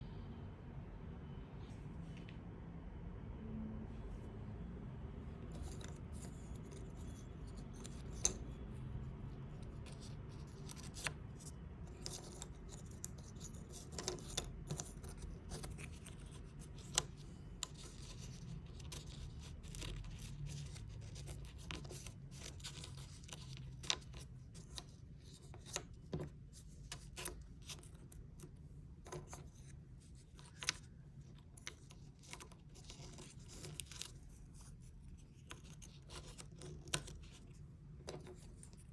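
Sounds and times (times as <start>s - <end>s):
scratching and rubbing: 5.4s - 38.9s.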